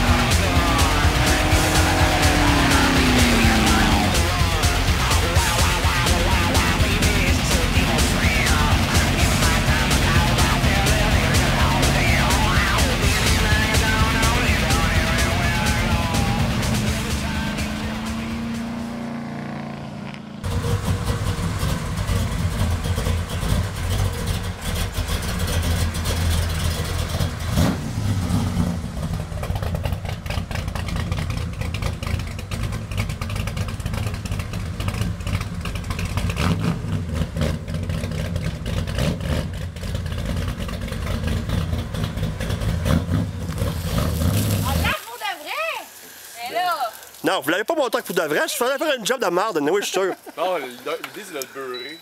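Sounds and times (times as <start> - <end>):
vee-eight engine rumbling and revving: 0.0 - 45.0.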